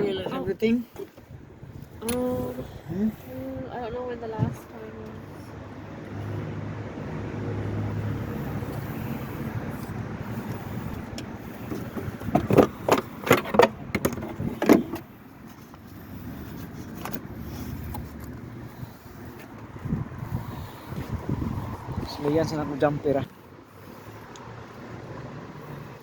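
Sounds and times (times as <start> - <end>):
road vehicle noise: 0.0 - 26.0.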